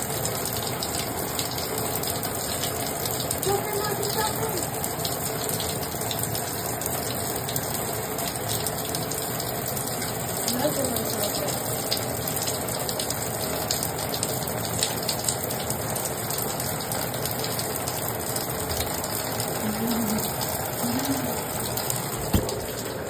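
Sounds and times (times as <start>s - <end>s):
shower water pouring into bathtub: 0.0s - 23.0s.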